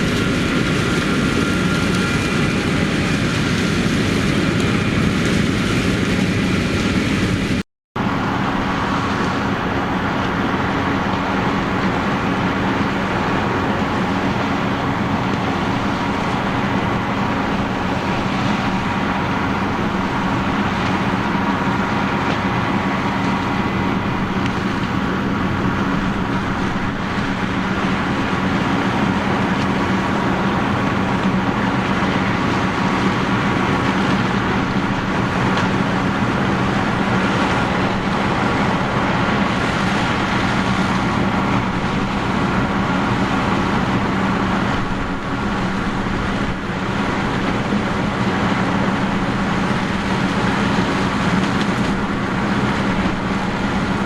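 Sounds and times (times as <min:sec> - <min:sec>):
heavy machinery engine drone: 0:00.0 - 0:54.0
hum of working parts: 0:00.0 - 0:54.0.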